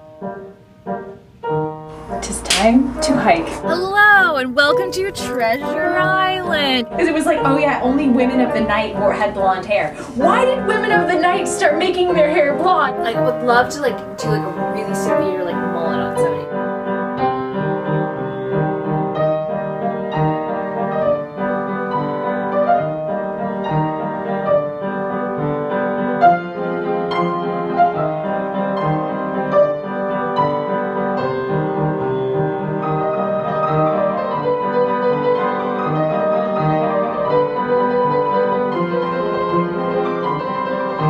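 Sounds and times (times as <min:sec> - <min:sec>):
piano music: 0:00.0 - 0:41.0.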